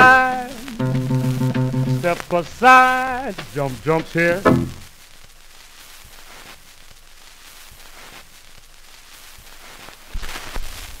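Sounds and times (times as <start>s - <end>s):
faint crackles: 0.0s - 11.0s
surface noise hiss: 0.0s - 11.0s.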